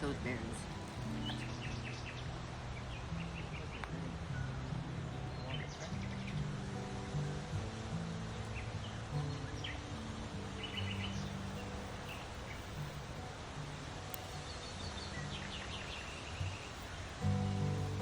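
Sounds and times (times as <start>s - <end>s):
small birds chirping: 0.0s - 18.0s
soft background music: 0.0s - 18.0s.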